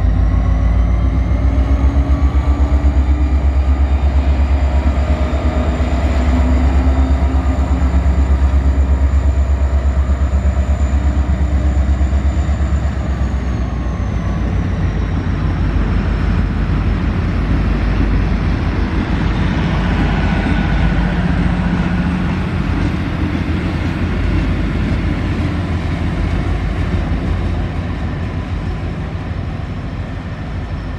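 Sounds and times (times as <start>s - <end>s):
diesel engine throbbing: 0.0s - 30.9s
high whine: 0.0s - 30.9s
wheels rumbling on rails: 0.0s - 30.9s.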